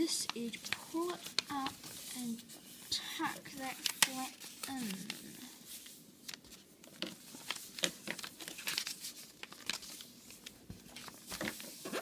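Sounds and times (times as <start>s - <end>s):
paper crackling and rustling: 0.0s - 12.0s.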